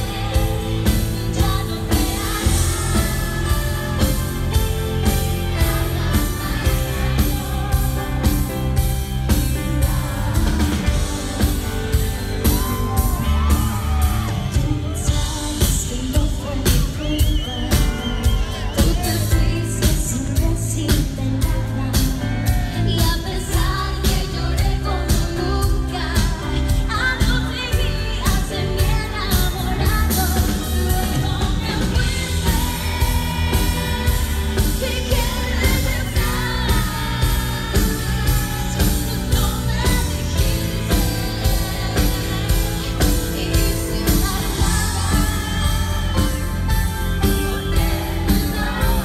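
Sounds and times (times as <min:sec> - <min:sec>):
live pop band through pa: 0:00.0 - 0:49.0
woman singing into microphone: 0:00.0 - 0:49.0.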